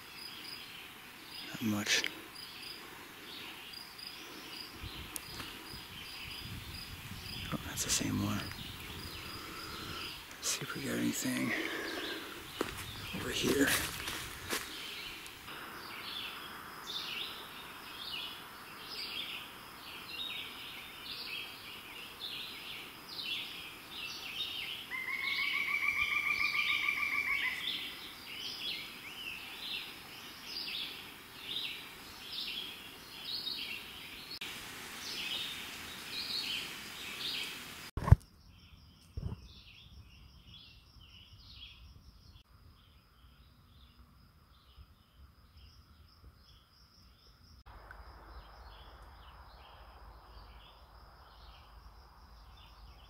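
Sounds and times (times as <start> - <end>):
birds chirping: 0.0 - 37.9, 45.5 - 53.0.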